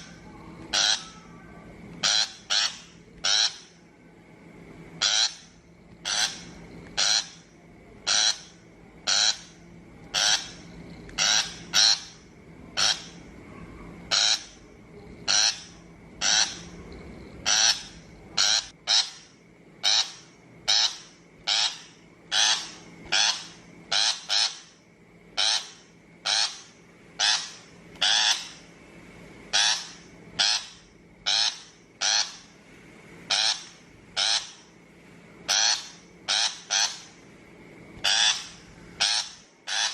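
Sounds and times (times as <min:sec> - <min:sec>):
shrike harsh grating calls: 0:00.0 - 0:03.8, 0:05.0 - 0:13.3, 0:14.1 - 0:14.6, 0:15.2 - 0:16.8, 0:17.4 - 0:28.7, 0:29.5 - 0:32.6, 0:33.3 - 0:34.7, 0:35.5 - 0:37.2, 0:38.0 - 0:39.9.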